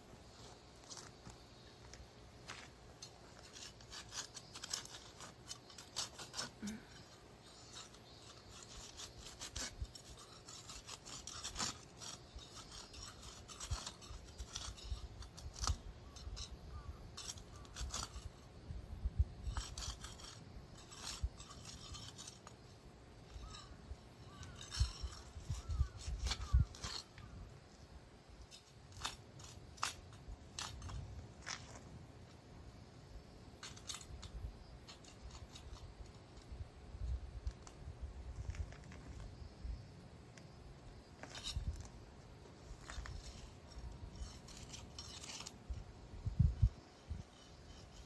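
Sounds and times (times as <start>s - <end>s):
sickle scraping weeds and grit: 0.0s - 48.0s.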